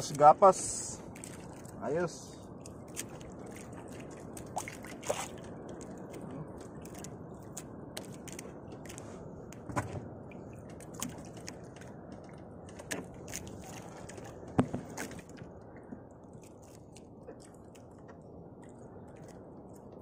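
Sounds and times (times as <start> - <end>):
sea water washing around boat: 0.0 - 20.0.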